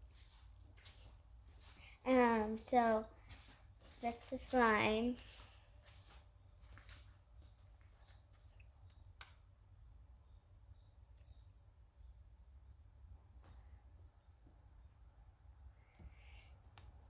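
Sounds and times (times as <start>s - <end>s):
faint high-pitched whine: 0.0s - 17.0s.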